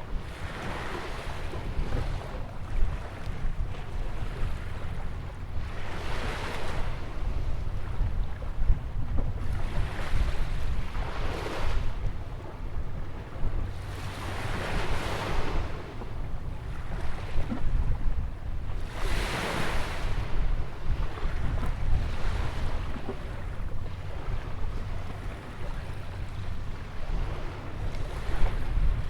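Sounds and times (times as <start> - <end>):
waves breaking on a beach: 0.0 - 8.0, 9.4 - 11.9, 13.3 - 16.1, 18.8 - 29.0
wind buffeting microphone: 0.0 - 29.0.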